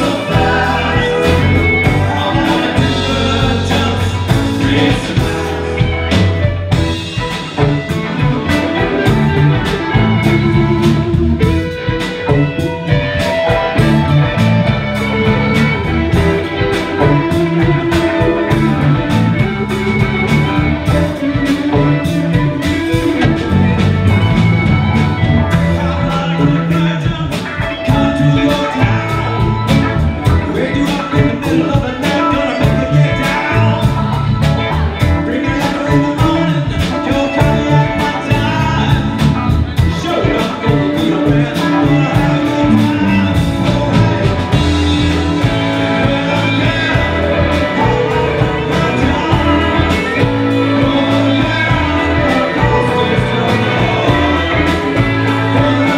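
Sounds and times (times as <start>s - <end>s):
drum kit beat: 0.0s - 55.9s
electric guitars: 0.0s - 55.9s
keyboards: 0.0s - 55.9s.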